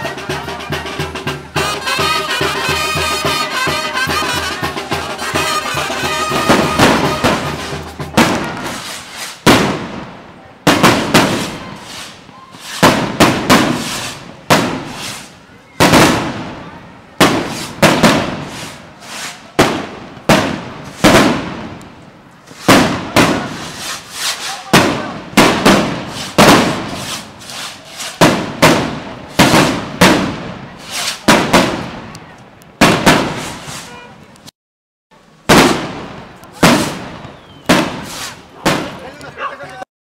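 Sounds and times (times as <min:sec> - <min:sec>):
firecrackers banging with echo: 0:00.0 - 0:33.9, 0:35.4 - 0:39.4.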